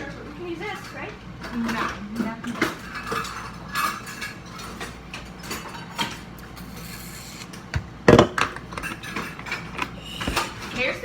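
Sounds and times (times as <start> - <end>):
kitchen containers and lids rummaging: 0.6 - 7.4, 8.0 - 11.0.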